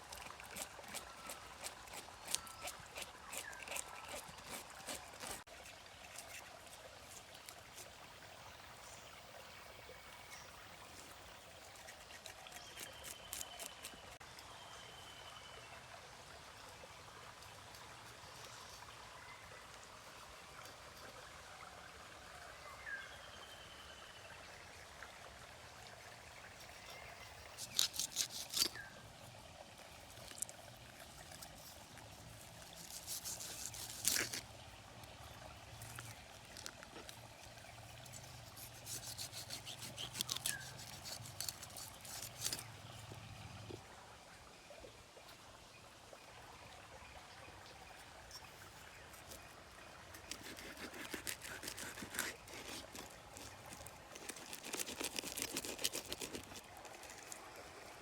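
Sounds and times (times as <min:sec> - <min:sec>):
faint water trickle: 0:00.0 - 0:58.0.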